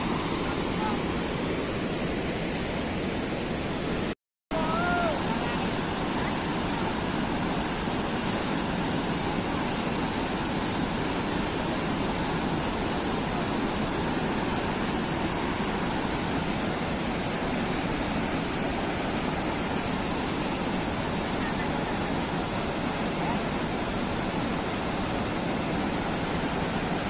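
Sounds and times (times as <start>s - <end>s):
river water rushing through gates: 0.0s - 27.0s.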